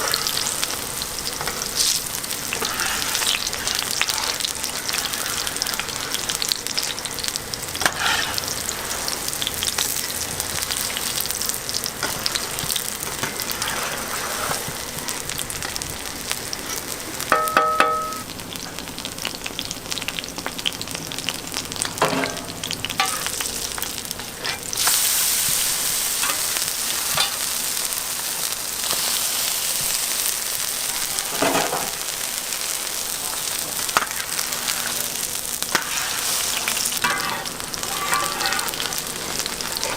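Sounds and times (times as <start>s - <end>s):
batter sizzling in oil: 0.0s - 39.9s.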